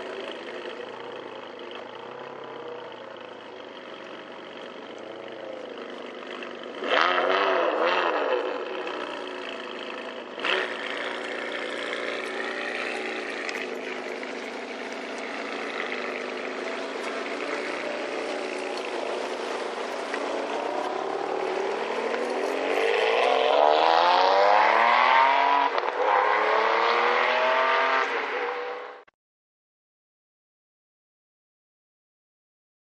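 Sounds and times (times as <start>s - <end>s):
sports car engine accelerating: 0.0s - 29.1s.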